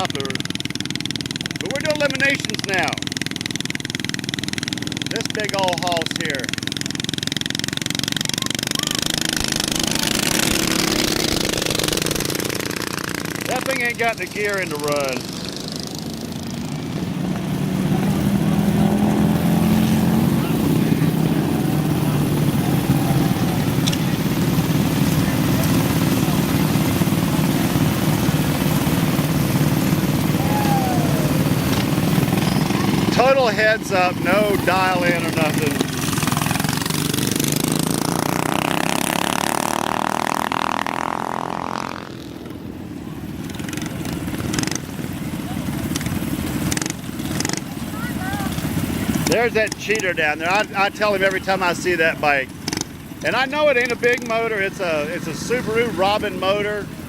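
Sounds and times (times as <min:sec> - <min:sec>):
minibike engines revving: 0:00.0 - 0:57.0.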